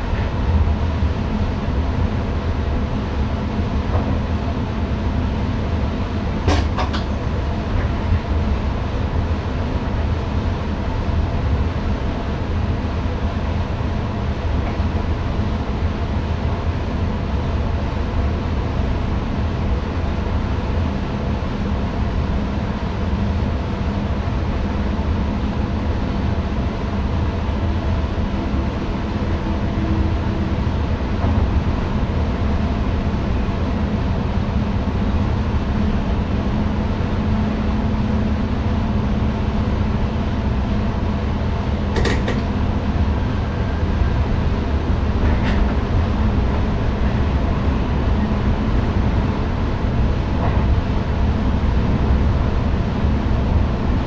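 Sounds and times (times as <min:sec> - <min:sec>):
train cab rumble and hum: 0:00.0 - 0:54.0.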